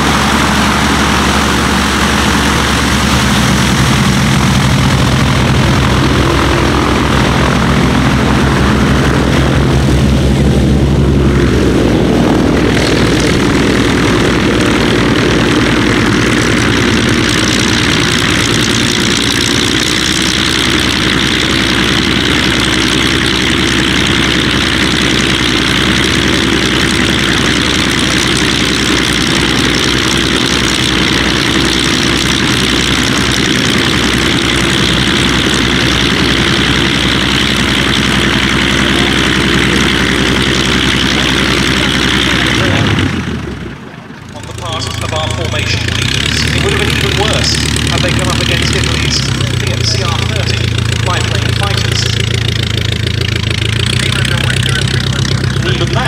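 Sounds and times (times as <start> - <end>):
propeller plane engines droning: 0.0 - 56.0.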